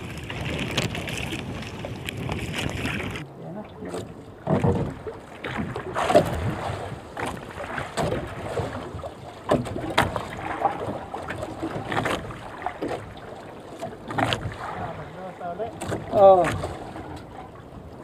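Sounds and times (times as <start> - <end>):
water sloshing around boat: 0.0 - 18.0.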